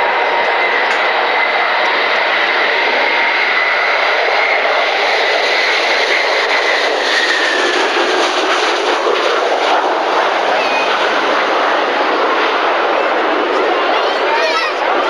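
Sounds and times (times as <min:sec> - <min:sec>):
high jet engine whine: 0:00.0 - 0:15.0
jet airliner roaring overhead: 0:00.0 - 0:15.0.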